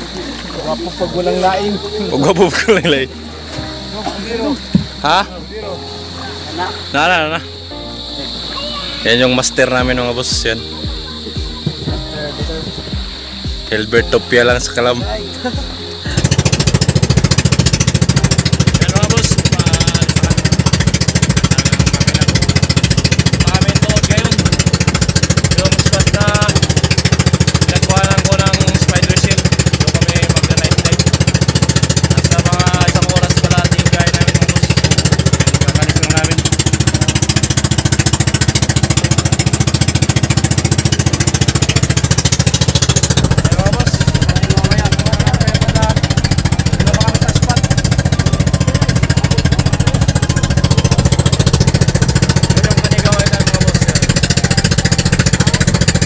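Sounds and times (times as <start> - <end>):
boat engine pulsing drone: 0.0 - 56.0.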